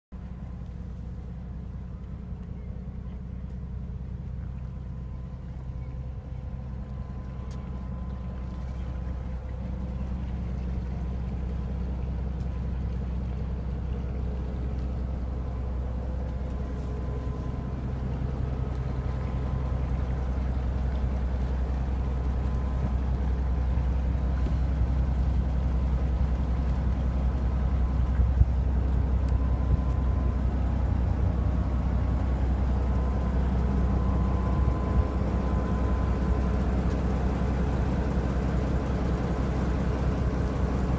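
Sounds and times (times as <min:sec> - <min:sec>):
boat engine droning: 0:00.2 - 0:40.9.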